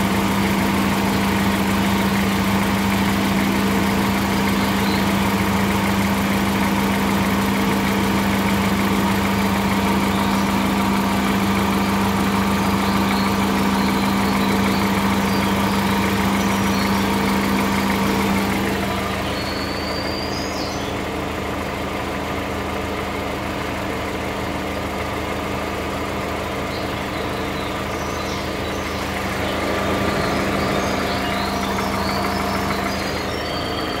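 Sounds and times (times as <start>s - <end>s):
car engine idling with hum: 0.0s - 34.0s.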